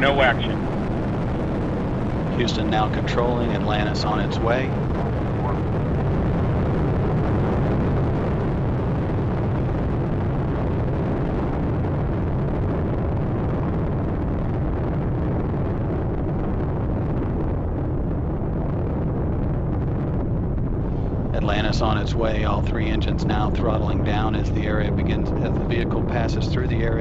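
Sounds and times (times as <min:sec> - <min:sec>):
deep rocket exhaust roar: 0:00.0 - 0:27.0.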